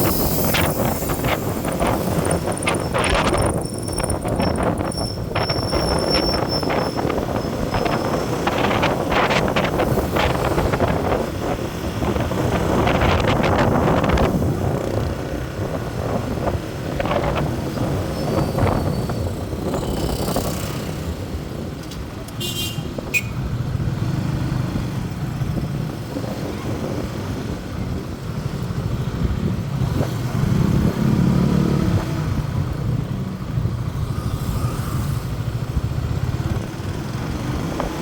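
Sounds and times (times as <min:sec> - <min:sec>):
road noise of vehicle: 0:00.0 - 0:38.0
wind buffeting microphone: 0:00.0 - 0:38.0.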